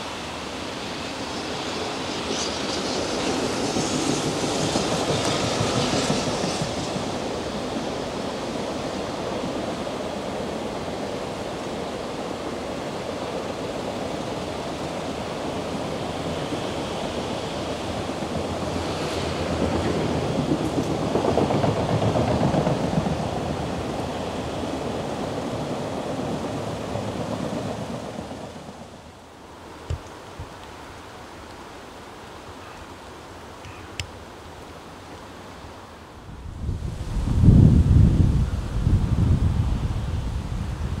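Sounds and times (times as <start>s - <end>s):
freight train rumbling: 0.0s - 29.4s, 36.2s - 41.0s.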